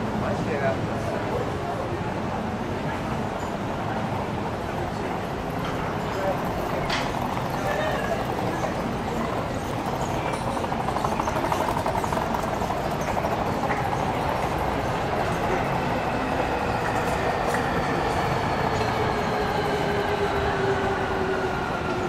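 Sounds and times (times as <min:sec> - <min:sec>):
train running with falling whine: 0:00.0 - 0:22.0.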